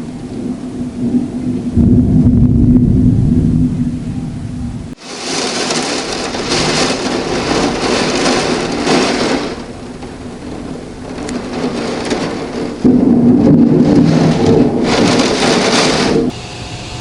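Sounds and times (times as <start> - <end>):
heavy rain hissing: 0.0 - 17.0
thunder rumble: 0.0 - 17.0.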